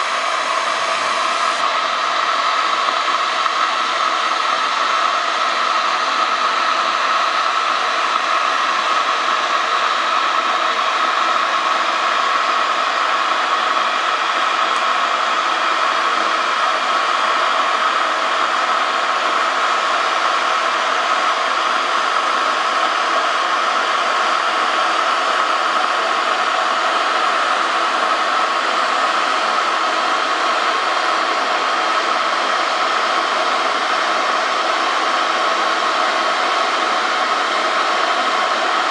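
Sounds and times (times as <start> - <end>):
kettle hissing: 0.0 - 38.9.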